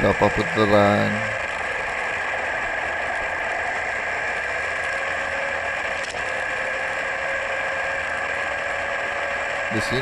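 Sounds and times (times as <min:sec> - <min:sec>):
electric motor and gears whining: 0:00.0 - 0:10.0.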